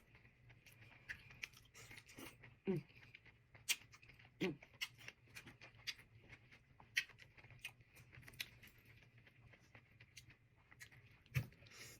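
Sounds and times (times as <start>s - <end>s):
chewing crunchy vegetables: 0.0s - 11.9s.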